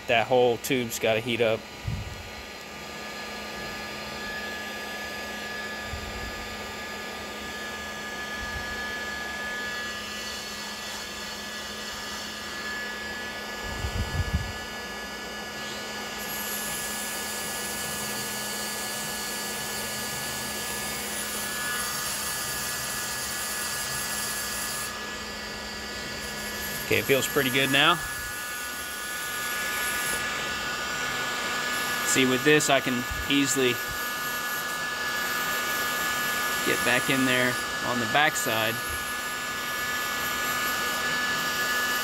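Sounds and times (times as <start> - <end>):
heat gun fan blowing: 0.0 - 42.0.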